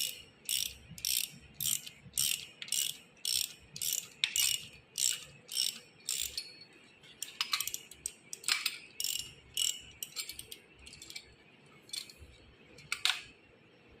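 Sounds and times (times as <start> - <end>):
metallic clicks and scrapes: 0.0 - 13.3.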